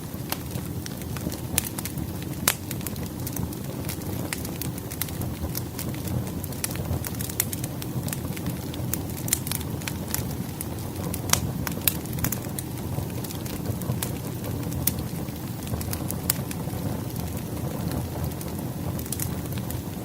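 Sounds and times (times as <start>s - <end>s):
firewood crackling: 0.0s - 20.0s.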